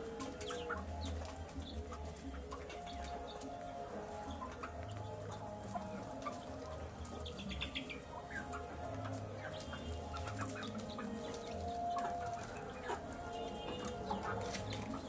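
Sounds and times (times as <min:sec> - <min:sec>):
chicks peeping and clucking: 0:00.0 - 0:15.0.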